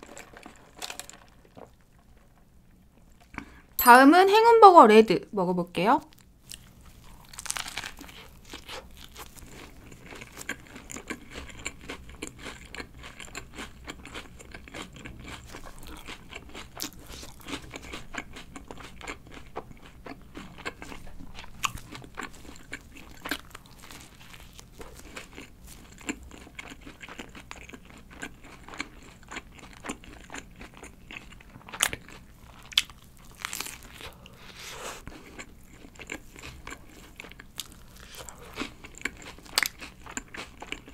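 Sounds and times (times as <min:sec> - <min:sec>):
person chewing a burger: 0:06.1 - 0:40.9.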